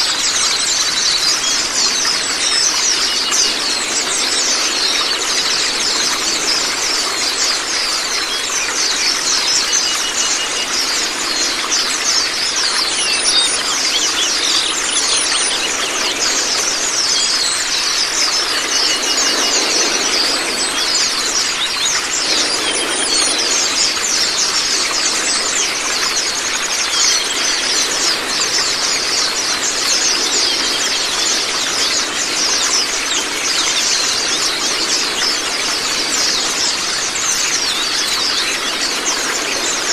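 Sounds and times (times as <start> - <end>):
birds twittering: 0.0 - 39.9
running water: 0.0 - 39.9.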